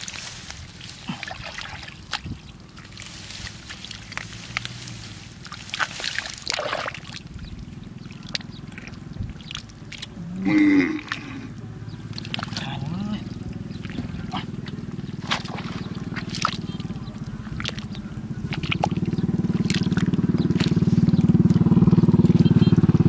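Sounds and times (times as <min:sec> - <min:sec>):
clicks of wet mud and stalks: 0:00.0 - 0:22.4
hands splashing in muddy water: 0:00.0 - 0:22.4.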